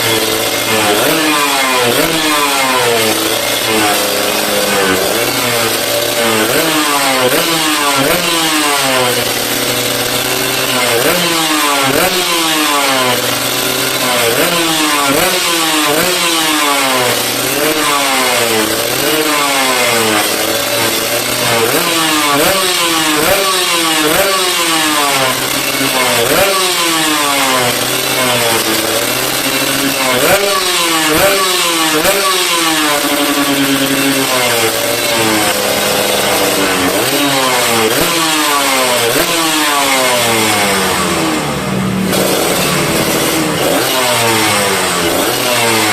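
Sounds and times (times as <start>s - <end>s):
two-stroke engine revving: 0.0s - 45.9s.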